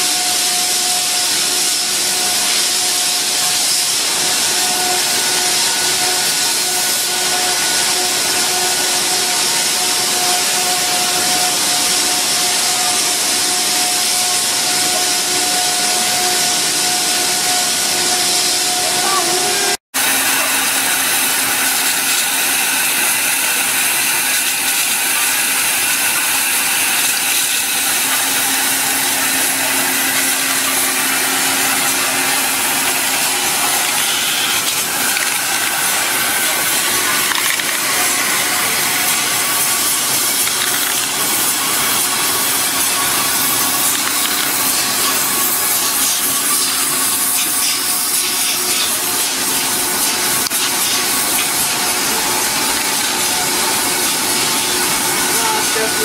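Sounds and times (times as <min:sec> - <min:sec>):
machinery hissing: 0:00.0 - 0:56.0.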